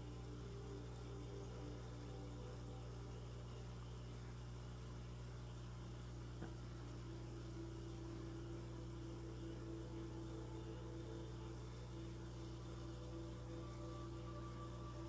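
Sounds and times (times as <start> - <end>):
aquarium equipment hum: 0.0 - 15.0
faint wavering tone: 0.0 - 15.0.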